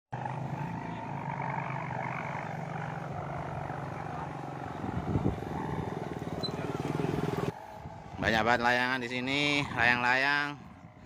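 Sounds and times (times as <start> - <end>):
kite hummers droning: 0.1 - 11.0.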